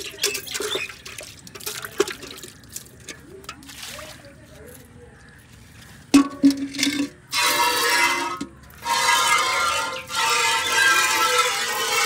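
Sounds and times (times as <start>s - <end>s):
milk squirting into metal pail: 0.0s - 4.3s, 6.2s - 12.0s
steel pail clinking: 0.0s - 4.3s, 6.1s - 12.0s.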